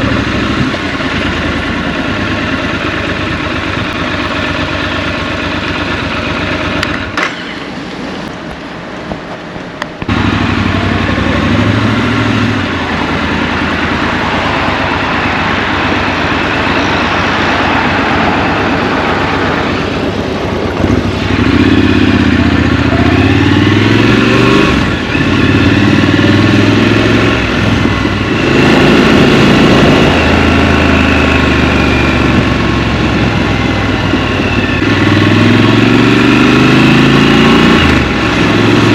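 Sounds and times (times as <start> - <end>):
motorcycle engine accelerating: 0.0 - 8.4, 10.0 - 38.9.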